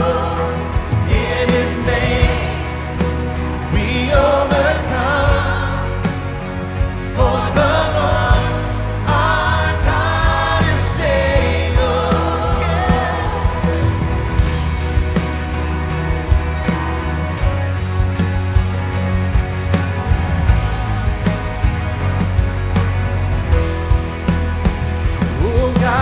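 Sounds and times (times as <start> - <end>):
people singing: 0.0 - 22.6, 25.2 - 26.0
band playing slow gospel song: 0.0 - 26.0.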